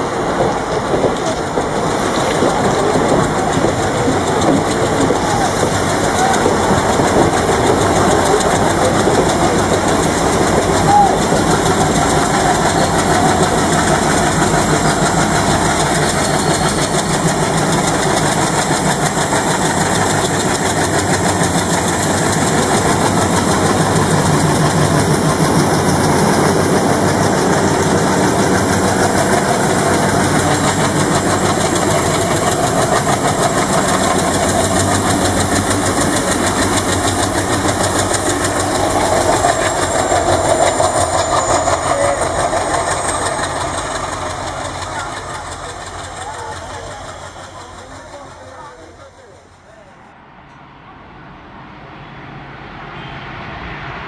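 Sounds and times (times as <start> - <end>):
diesel locomotive engine running: 0.0 - 50.9.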